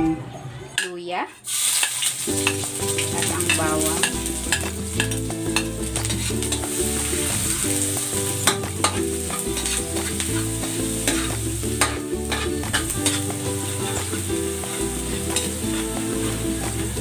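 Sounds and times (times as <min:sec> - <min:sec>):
metal spatula scraping wok: 0:00.8 - 0:17.0
ginger and garlic sizzling in oil: 0:01.3 - 0:17.0.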